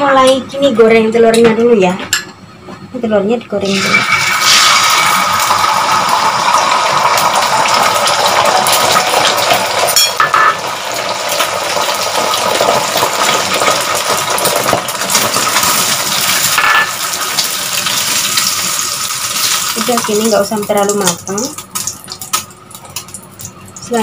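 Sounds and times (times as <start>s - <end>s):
eggs sizzling in oil: 3.7s - 24.0s.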